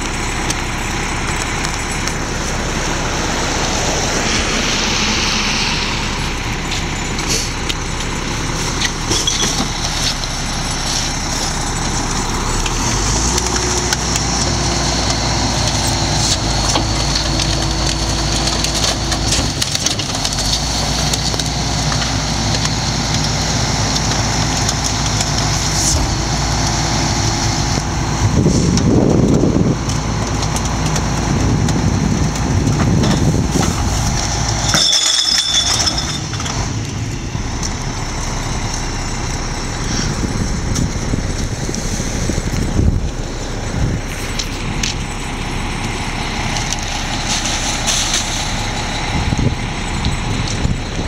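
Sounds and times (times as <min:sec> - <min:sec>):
garbage truck running: 0:00.0 - 0:51.0.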